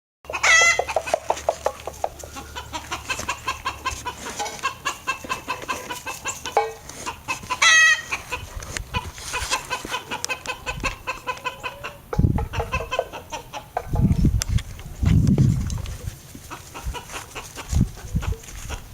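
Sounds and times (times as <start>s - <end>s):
chickens clucking: 0.2s - 18.9s
chicken squawk: 0.3s - 14.0s, 16.4s - 18.9s.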